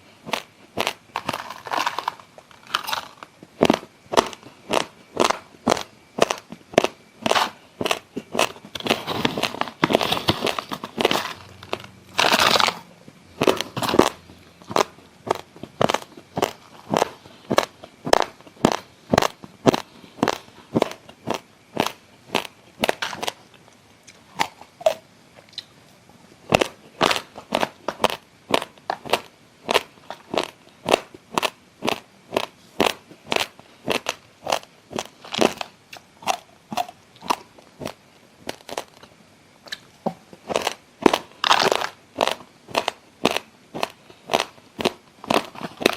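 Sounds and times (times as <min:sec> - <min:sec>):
chewing crunchy raw rice: 0:00.2 - 0:25.7, 0:26.5 - 0:39.1, 0:39.7 - 0:45.9.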